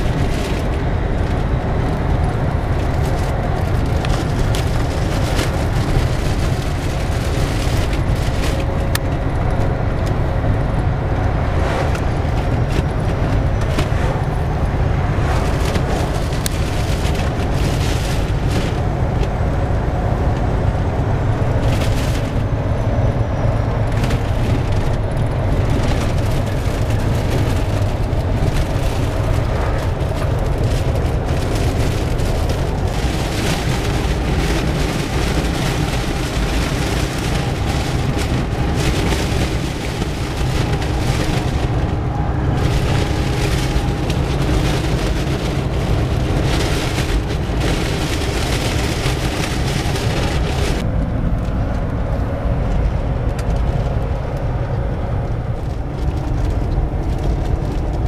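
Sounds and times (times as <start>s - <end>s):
road and wind noise in car: 0.0s - 58.0s.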